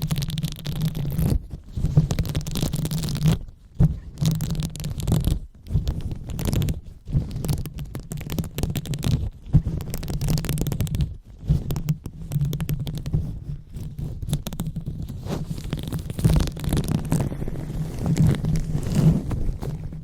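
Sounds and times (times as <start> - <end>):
fingers scratching microphone: 0.0 - 20.0.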